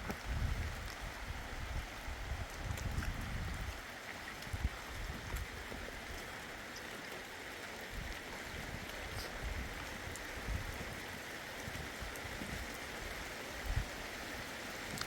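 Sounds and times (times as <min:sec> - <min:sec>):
rain and running water: 0:00.0 - 0:15.0.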